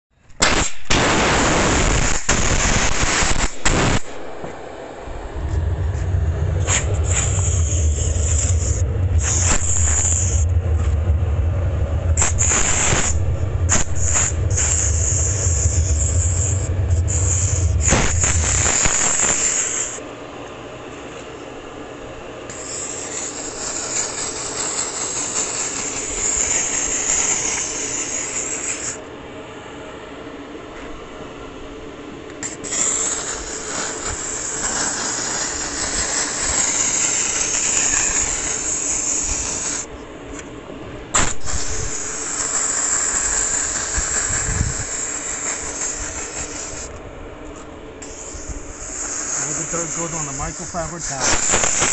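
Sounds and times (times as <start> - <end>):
steam jet hissing: 0.4 - 20.0, 22.5 - 29.0, 32.4 - 39.9, 41.2 - 46.9, 48.0 - 51.9.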